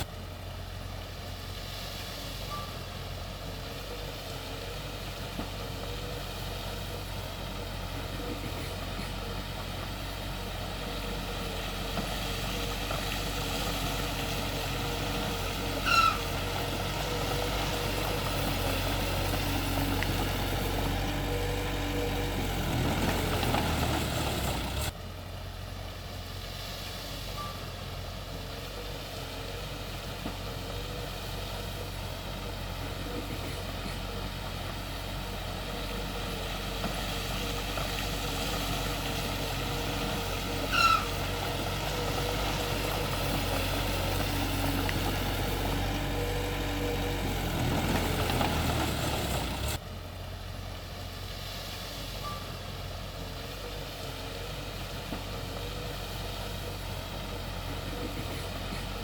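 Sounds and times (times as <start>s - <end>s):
heavy machinery engines running: 0.0s - 59.0s.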